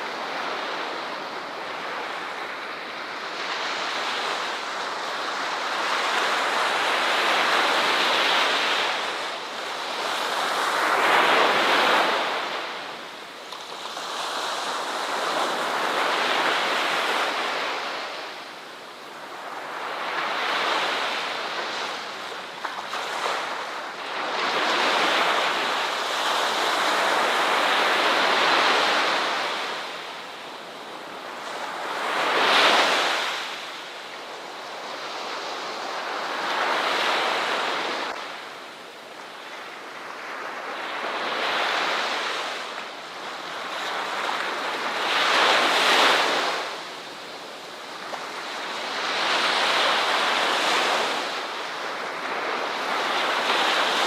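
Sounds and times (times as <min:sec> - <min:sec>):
ocean surf washing onto shore: 0:00.0 - 0:54.0.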